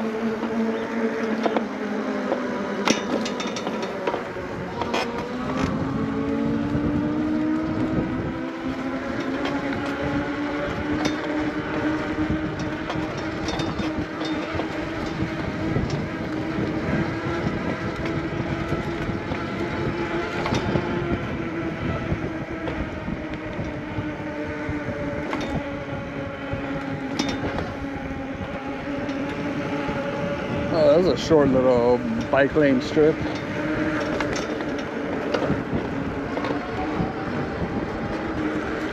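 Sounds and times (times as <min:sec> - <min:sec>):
electric motor whining: 0:00.0 - 0:38.9
wind noise: 0:00.0 - 0:38.9.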